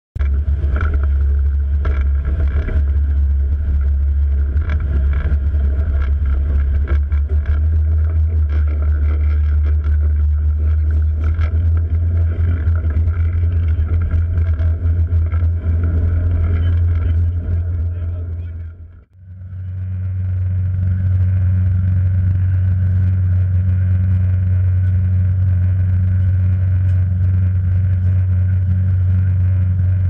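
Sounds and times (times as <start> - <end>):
diesel engines droning: 0.2 - 30.0.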